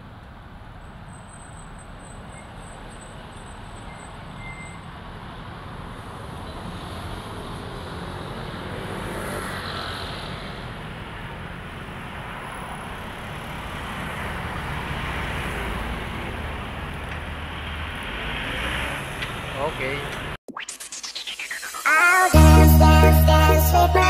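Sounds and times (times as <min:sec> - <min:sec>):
road traffic passing cars: 0:00.0 - 0:20.4.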